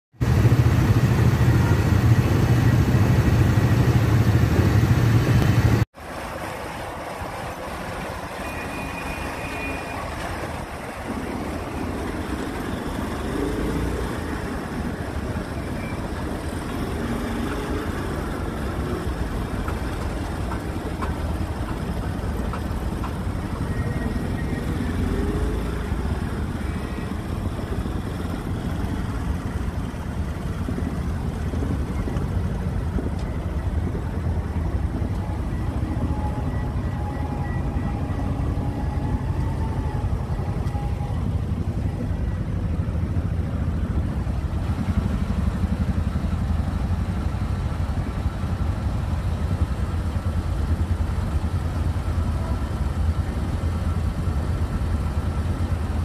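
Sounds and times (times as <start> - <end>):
street traffic noise: 0.1 - 56.0
heavy low engine rumble: 0.2 - 56.0.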